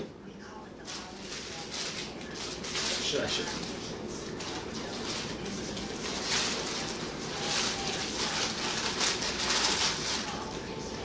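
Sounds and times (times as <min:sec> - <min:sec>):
plastic wrap crinkling: 0:00.8 - 0:11.0.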